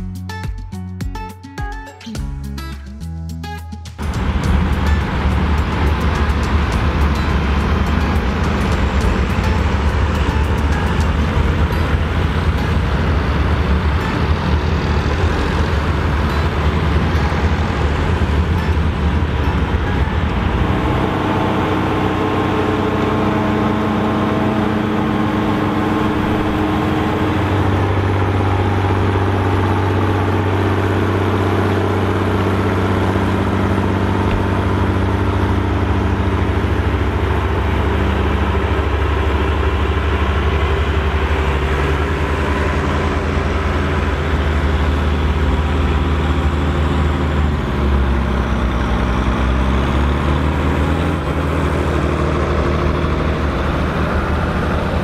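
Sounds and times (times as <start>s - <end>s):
tractor diesel engines running: 2.4s - 55.0s.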